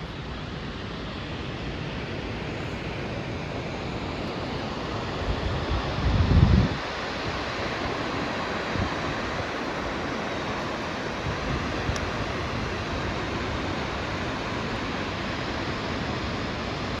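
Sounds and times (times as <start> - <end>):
waterfall rushing: 2.3 - 17.0.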